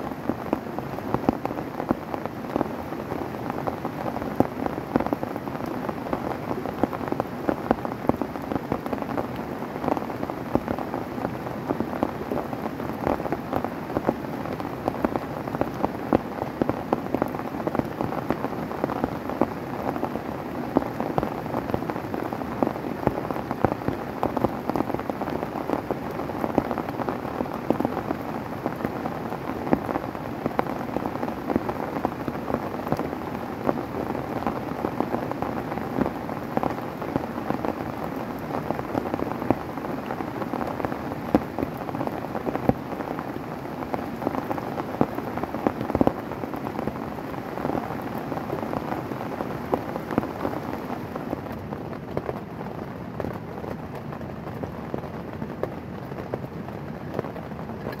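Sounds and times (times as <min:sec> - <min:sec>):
heavy rain on tent: 0:00.0 - 0:58.0.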